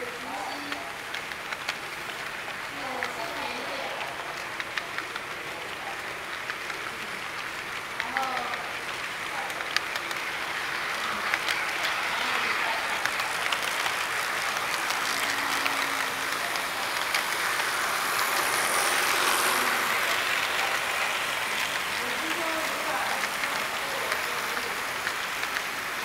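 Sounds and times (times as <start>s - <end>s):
model train cars rattling on rail: 0.0s - 26.0s.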